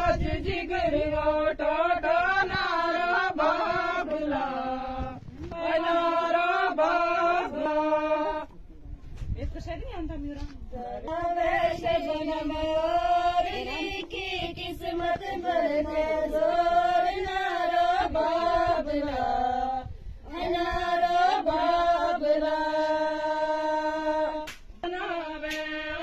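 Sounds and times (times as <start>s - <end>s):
elderly woman singing unaccompanied: 0.0s - 8.5s, 10.7s - 26.0s.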